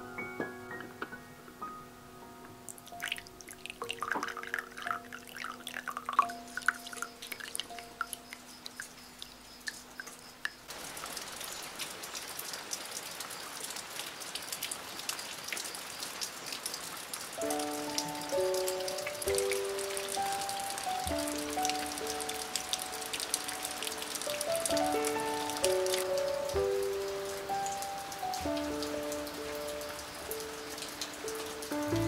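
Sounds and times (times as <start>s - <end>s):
drips and light ticks: 2.4s - 32.0s
steady rain: 2.4s - 32.0s.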